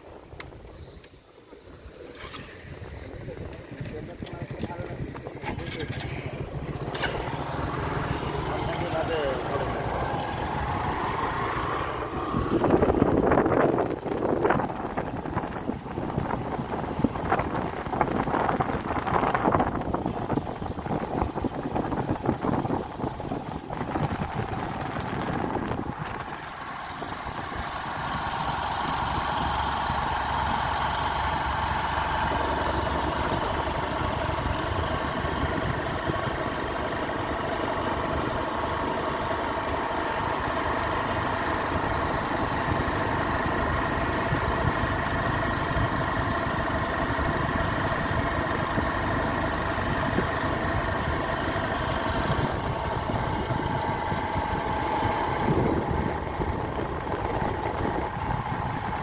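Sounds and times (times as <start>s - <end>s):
motorcycle engine running: 1.2s - 59.0s
wind buffeting microphone: 1.8s - 8.8s, 9.4s - 38.7s, 40.7s - 59.0s.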